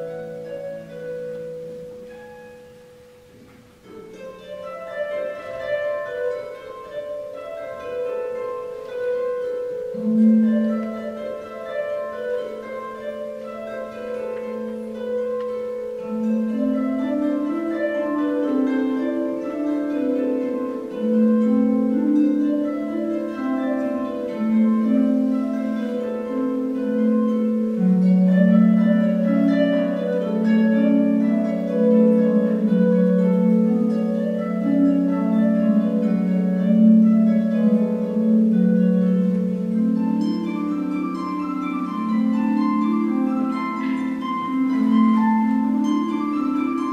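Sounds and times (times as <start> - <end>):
harp plucked notes: 0.0 - 46.9.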